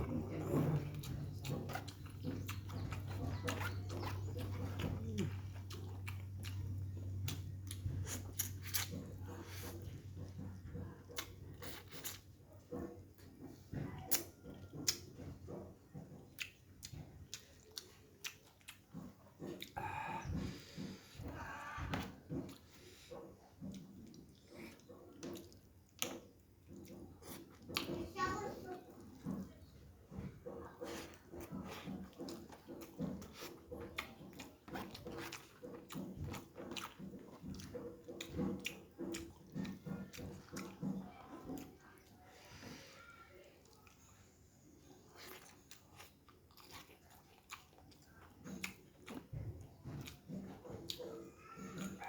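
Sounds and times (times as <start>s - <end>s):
wet chewing: 0.0s - 52.0s.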